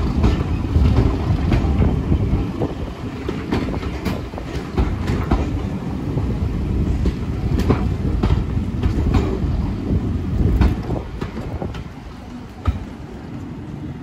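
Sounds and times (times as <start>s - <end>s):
wheels clicking on rails: 0.0s - 13.7s
train rumbling past: 0.0s - 14.0s.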